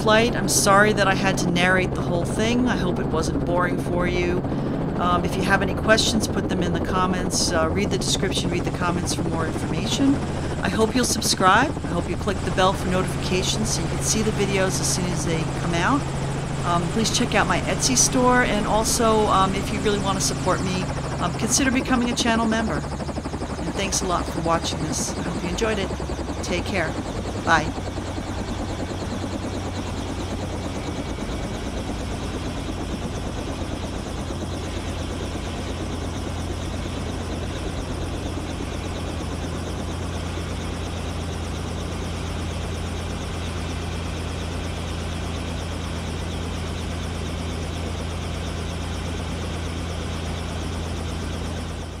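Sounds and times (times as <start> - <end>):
helicopter engine and rotor hum: 0.0 - 52.0.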